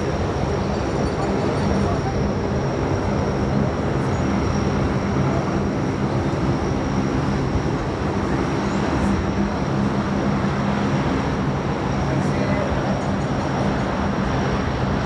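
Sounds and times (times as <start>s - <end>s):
aircraft engine drone: 0.0s - 15.0s
high-pitched engine whine: 0.0s - 15.0s.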